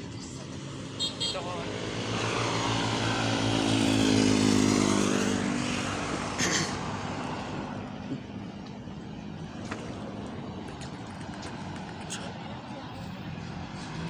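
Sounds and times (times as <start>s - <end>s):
motor vehicle passing: 0.4s - 14.0s.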